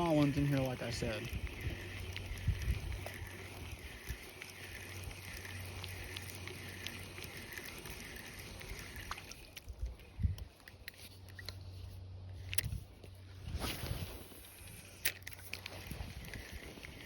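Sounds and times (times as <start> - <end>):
fishing reel whirring: 0.0 - 11.6, 13.6 - 17.0
steady low hum: 0.0 - 17.0.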